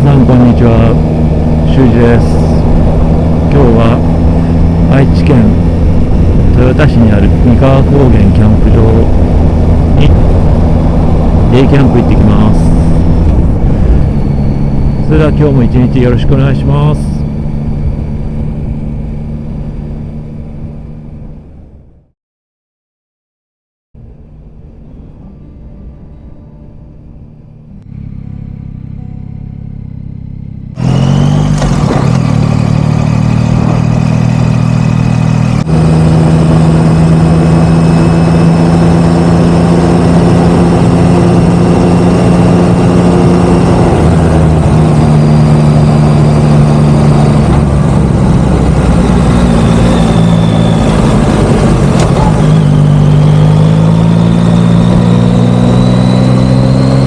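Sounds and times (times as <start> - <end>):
motorcycle engine: 0.0 - 22.1, 24.0 - 57.0.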